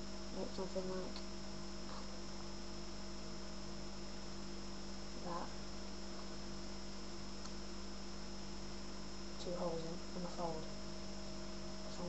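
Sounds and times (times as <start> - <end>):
electrical hum: 0.0 - 12.0
faint high whine: 0.0 - 12.0.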